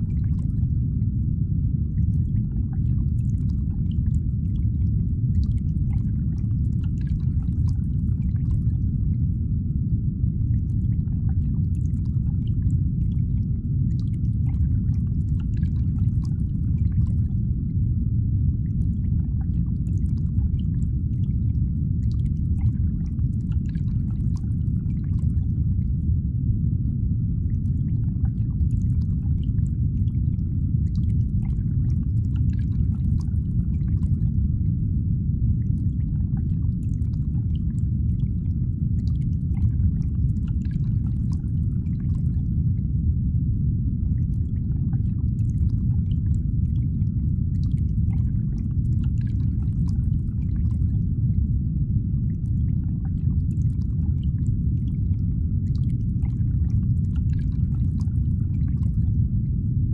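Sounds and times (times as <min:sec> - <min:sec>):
deep rumbling drone: 0:00.0 - 0:59.9
faint high hum: 0:00.0 - 0:59.9.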